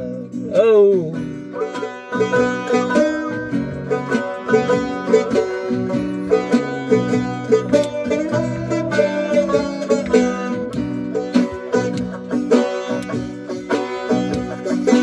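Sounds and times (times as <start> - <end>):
plucked string instruments: 0.0 - 15.0
sharp percussive strikes: 1.6 - 15.0.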